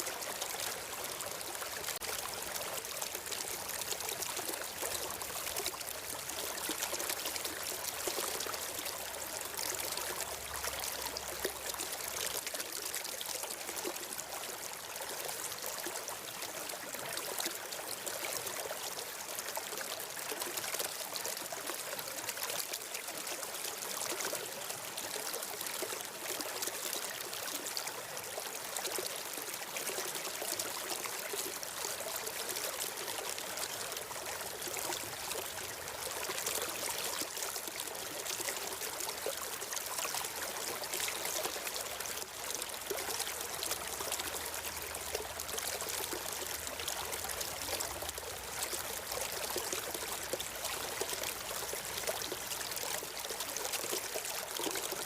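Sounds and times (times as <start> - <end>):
stream flowing and trickling: 0.0 - 55.0.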